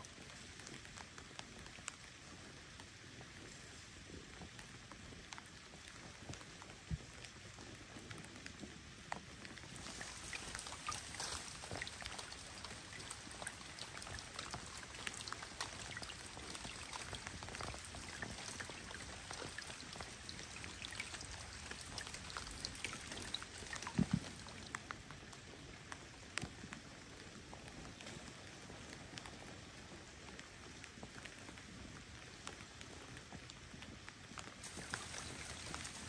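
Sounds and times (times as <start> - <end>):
light rain on water: 0.0 - 36.0.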